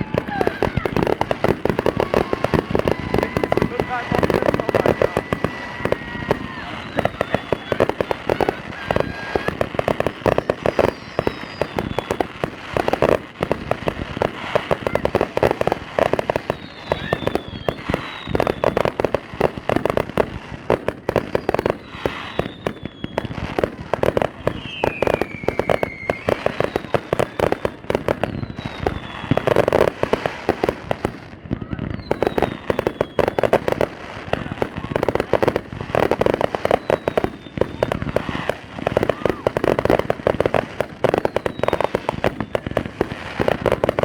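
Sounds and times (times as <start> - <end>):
falling firework whistles: 0.0 - 44.0
fireworks bangs: 0.0 - 44.0
fireworks crackling: 0.0 - 44.0.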